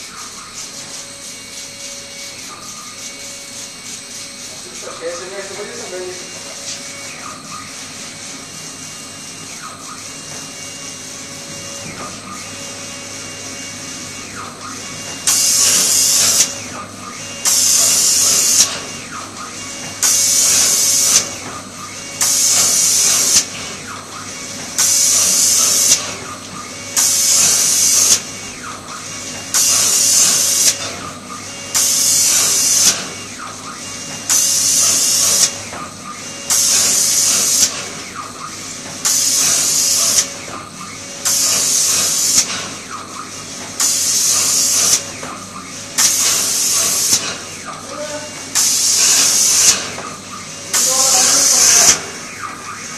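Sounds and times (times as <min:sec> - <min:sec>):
pneumatic spray guns hissing: 0:00.0 - 0:52.2.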